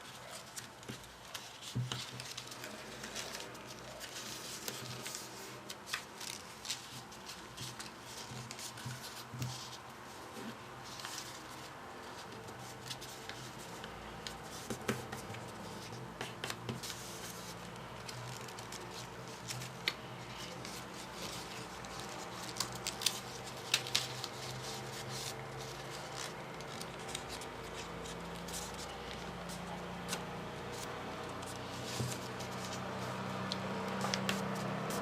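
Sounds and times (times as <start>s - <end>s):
paper clicks and crinkling: 0.0s - 35.0s.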